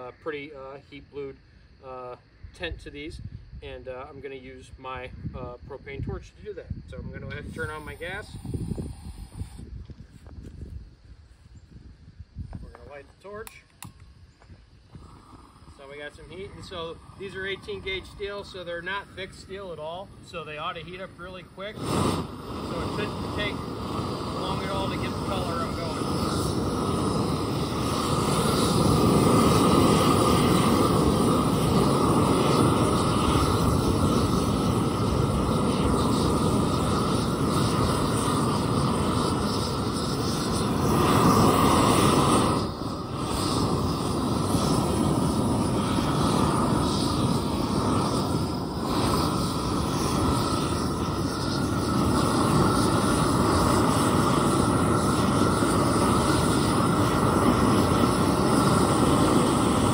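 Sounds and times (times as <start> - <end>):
propane torch flame rushing: 2.3 - 59.9.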